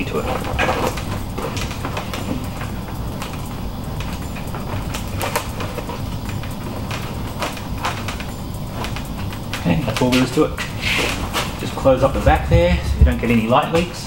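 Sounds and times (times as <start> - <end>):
frame rods scraping and clicking: 0.0 - 14.0
low background hum: 0.0 - 14.0
nylon fabric rustling: 0.0 - 14.0.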